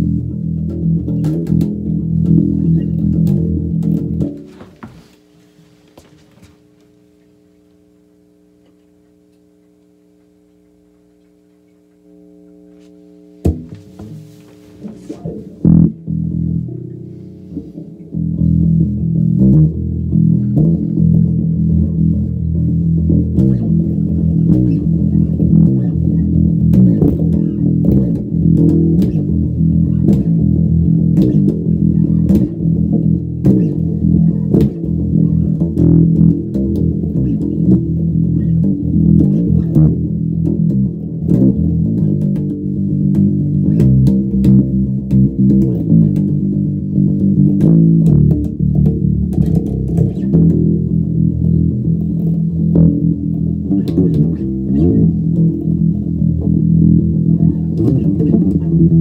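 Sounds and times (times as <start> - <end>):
electric bass metal riff: 0.0 - 4.9, 11.9 - 59.0.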